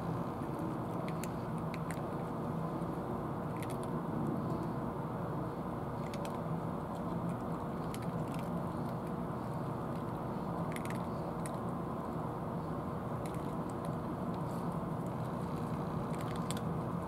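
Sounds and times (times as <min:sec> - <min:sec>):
cats crunching dry kibble: 0:00.0 - 0:17.0
low background rumble: 0:00.0 - 0:17.0.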